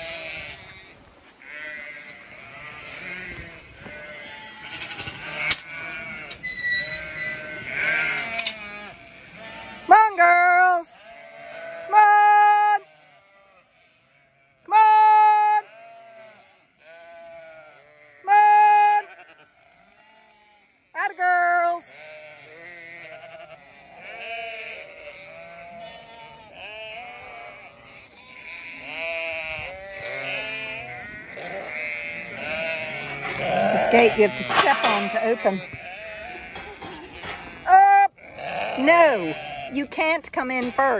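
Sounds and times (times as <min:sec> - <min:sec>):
sheep bleating: 0:00.0 - 0:40.9.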